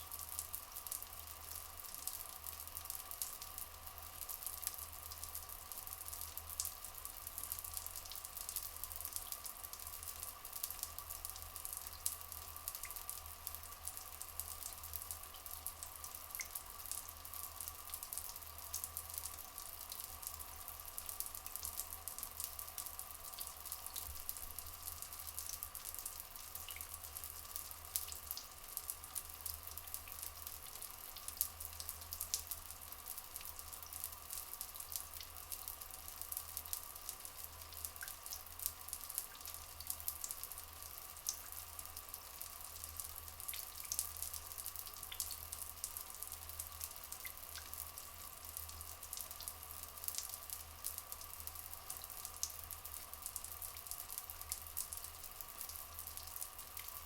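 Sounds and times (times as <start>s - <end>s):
fine drips and splashes: 0.0s - 57.0s
running trickling water: 0.0s - 57.0s.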